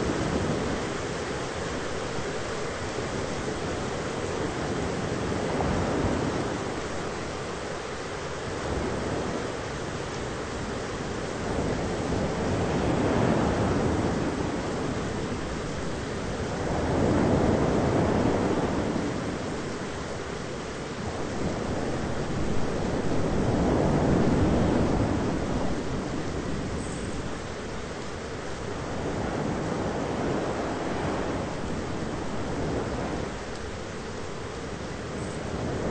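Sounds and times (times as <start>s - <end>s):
rushing storm noise: 0.0s - 35.9s.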